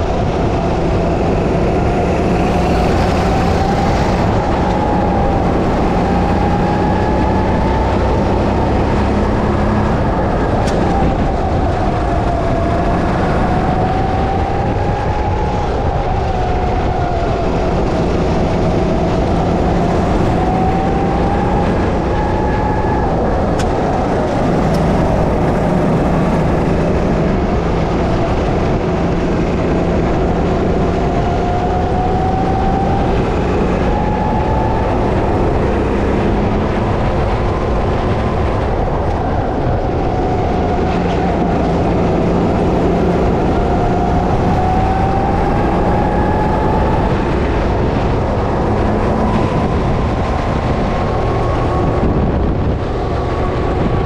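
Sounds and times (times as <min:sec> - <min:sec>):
go-kart engine whine: 0:00.0 - 0:54.0
loud steady rush of noise: 0:00.0 - 0:54.0.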